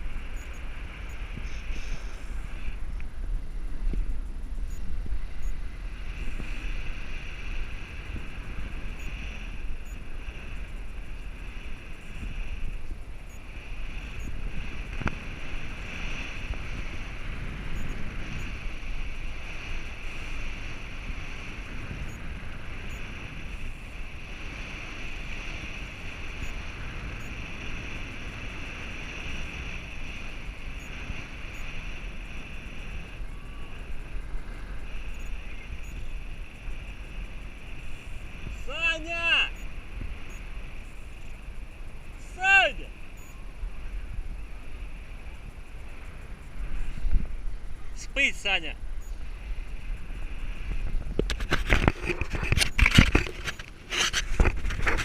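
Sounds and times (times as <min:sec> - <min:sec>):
continuous high hiss: 0:00.0 - 0:55.0
wind rumbling on microphone: 0:00.0 - 0:55.0.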